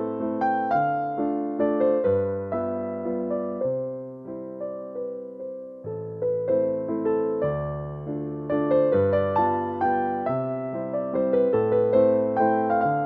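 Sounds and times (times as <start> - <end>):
soft electric piano melody: 0.0 - 13.0.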